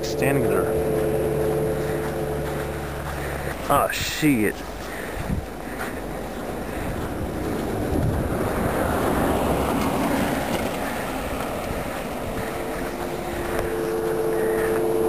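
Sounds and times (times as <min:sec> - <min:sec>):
steady whine: 0:00.0 - 0:15.0
vehicle passing on snowy road: 0:00.0 - 0:15.0.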